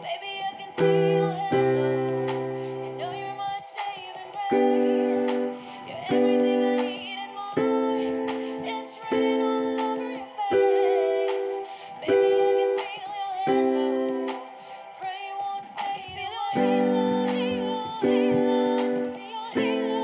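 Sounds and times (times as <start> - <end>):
woman singing: 0.0 - 20.0
piano chords on keyboard: 0.8 - 20.0.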